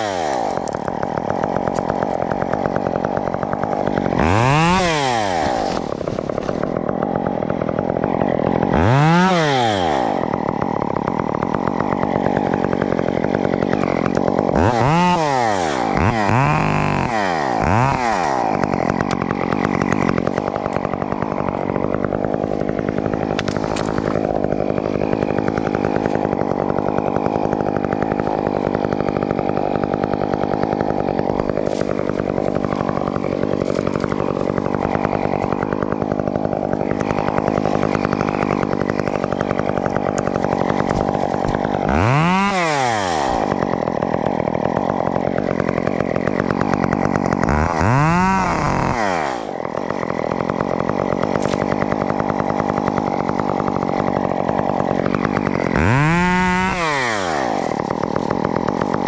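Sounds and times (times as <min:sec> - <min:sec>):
chainsaw running at high revs: 0:00.0 - 0:59.0.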